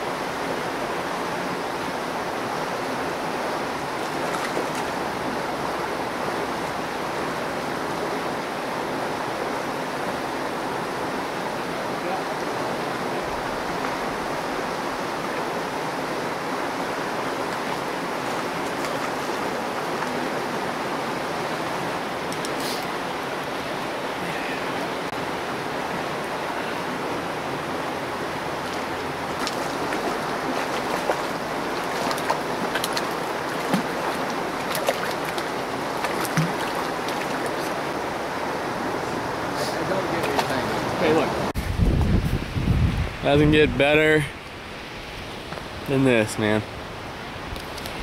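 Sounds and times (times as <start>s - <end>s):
river rushing over rocks: 0.0s - 41.7s.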